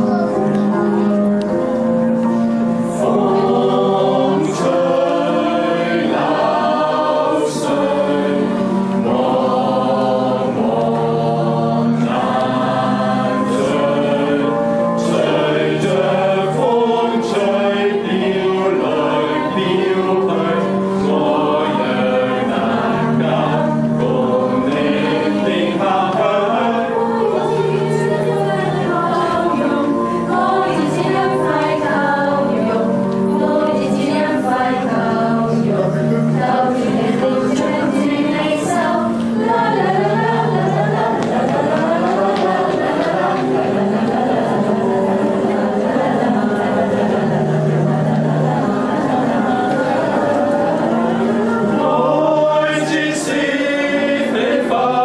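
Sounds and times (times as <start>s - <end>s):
group of people singing: 0.0s - 55.0s.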